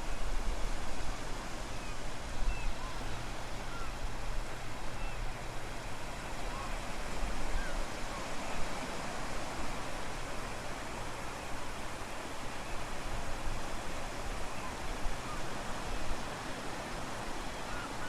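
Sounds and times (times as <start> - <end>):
waves washing in: 0.0 - 18.0.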